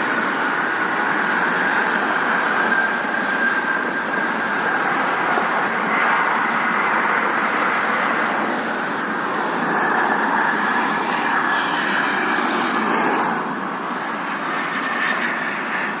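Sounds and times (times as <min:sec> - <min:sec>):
road traffic hiss and hum: 0:00.0 - 0:16.0.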